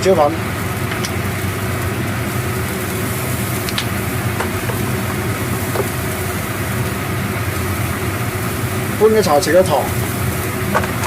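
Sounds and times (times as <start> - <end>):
low mechanical hum: 0.0 - 11.0
stove and ventilation hiss: 0.0 - 11.0
sauce simmering in a wok: 0.3 - 11.0.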